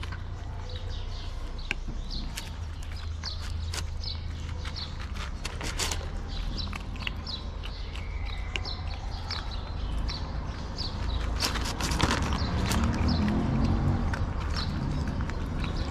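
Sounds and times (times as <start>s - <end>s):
cats chewing wet food: 0.0s - 15.9s.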